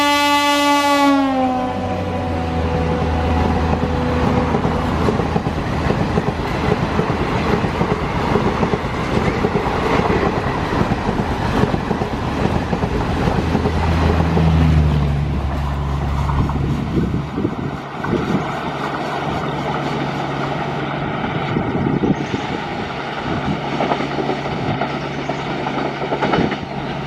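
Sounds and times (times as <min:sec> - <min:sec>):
diesel locomotive engine drone: 0:00.0 - 0:27.0
train coaches rushing past: 0:01.2 - 0:27.0.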